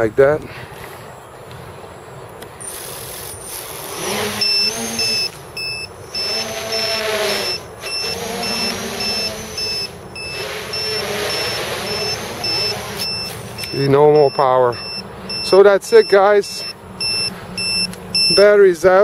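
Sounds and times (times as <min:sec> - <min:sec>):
quadcopter propellers whirring: 0:01.8 - 0:19.0
low-battery alarm beeping: 0:02.0 - 0:18.6.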